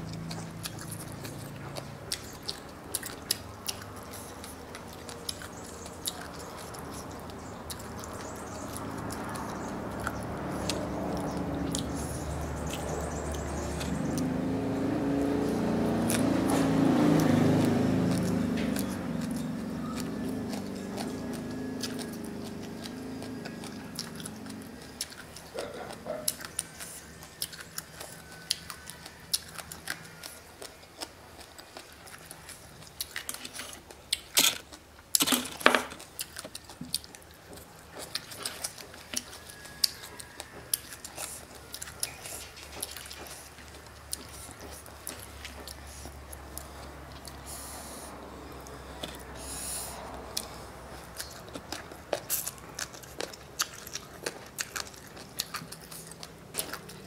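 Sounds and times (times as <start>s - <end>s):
chewing crunchy food: 0.0s - 57.0s.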